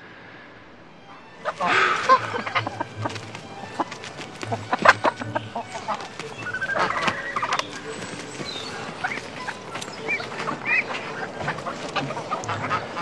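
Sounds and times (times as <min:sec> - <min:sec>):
geese calling: 0:00.7 - 0:13.0
chickens clucking: 0:01.1 - 0:13.0.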